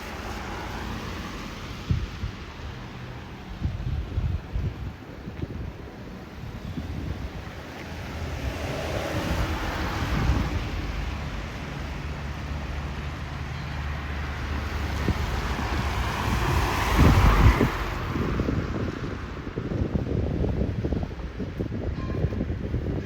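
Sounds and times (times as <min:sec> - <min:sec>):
vehicle passing with tyre noise: 0:00.0 - 0:21.8.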